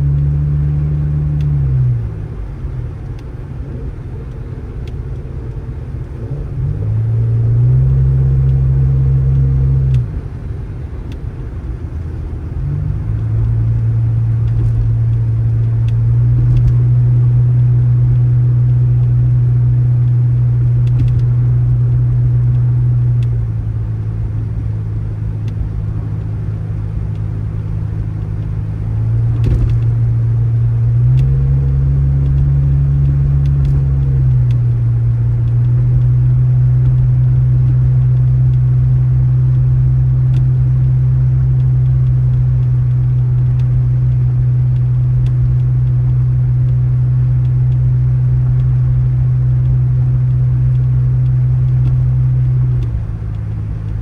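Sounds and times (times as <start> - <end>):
engine droning: 0.0 - 54.0.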